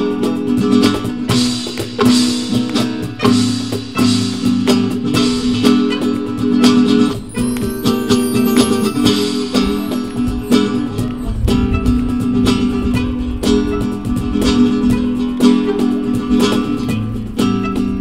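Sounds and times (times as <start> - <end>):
flamenco acoustic guitar: 0.0 - 18.0.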